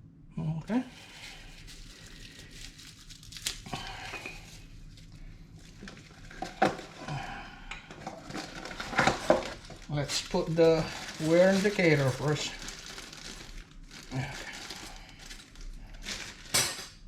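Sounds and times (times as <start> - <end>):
packaging crinkling and rustling: 0.9 - 17.0.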